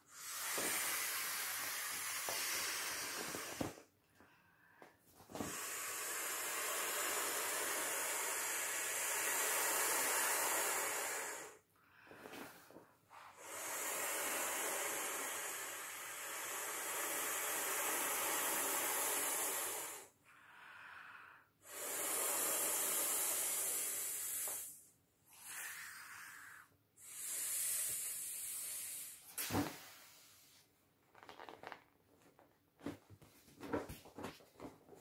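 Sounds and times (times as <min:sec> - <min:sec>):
breath blown into valve: 0:00.0 - 0:03.9, 0:05.3 - 0:12.4, 0:13.1 - 0:30.6.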